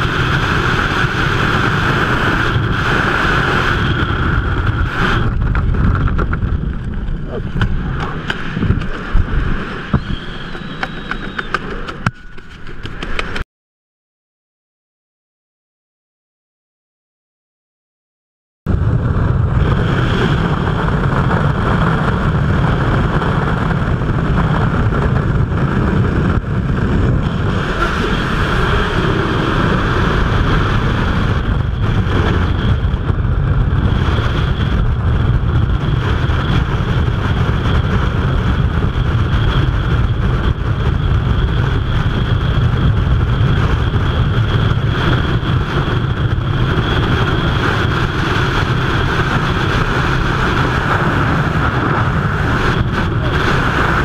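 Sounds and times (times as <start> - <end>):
wind buffeting microphone: 0.0 - 13.4, 18.7 - 54.0.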